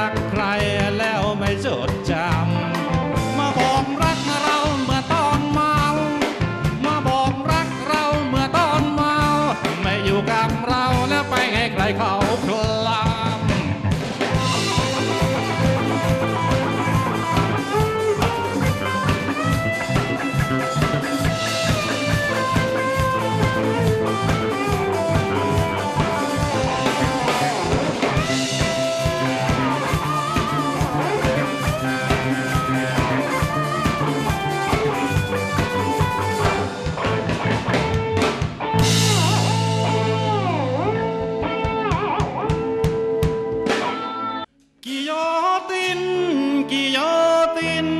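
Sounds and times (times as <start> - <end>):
drum kit: 0.0 - 44.5
bass guitar: 0.0 - 44.8, 45.9 - 47.9
electric guitar lead: 0.0 - 47.9.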